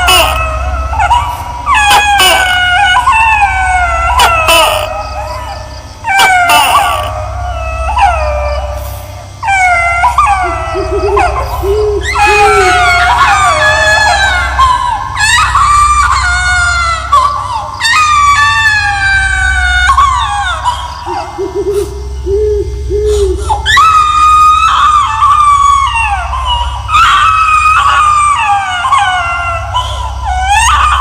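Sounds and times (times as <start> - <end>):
baby crying: 0.0 - 31.0
steady low drone: 0.0 - 31.0.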